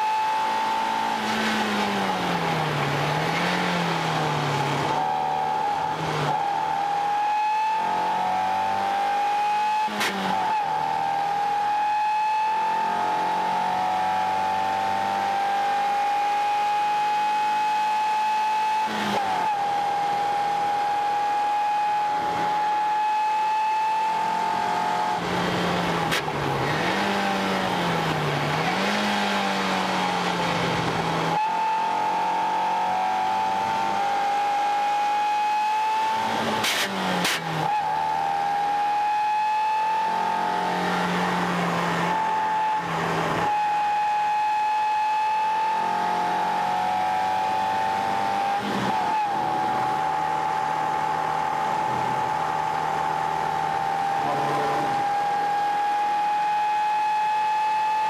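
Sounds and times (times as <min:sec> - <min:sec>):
car engine revving high: 0:00.0 - 0:58.0.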